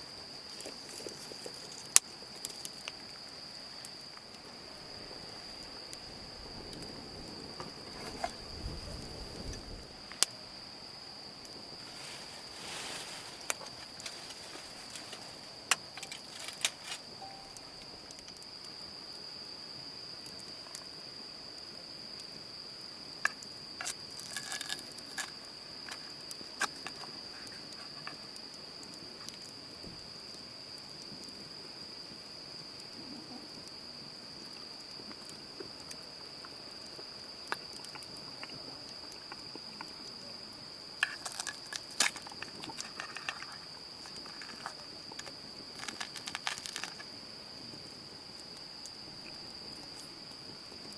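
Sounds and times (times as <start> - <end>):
crickets chirping: 0.0 - 50.9.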